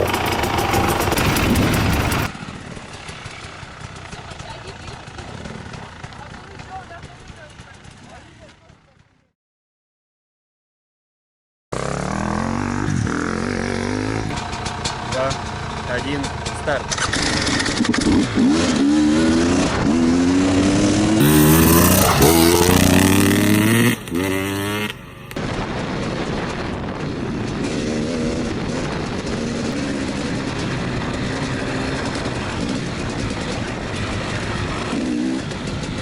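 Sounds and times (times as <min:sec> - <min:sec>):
motorcycle engine revving: 0:00.0 - 0:08.6, 0:11.8 - 0:36.0.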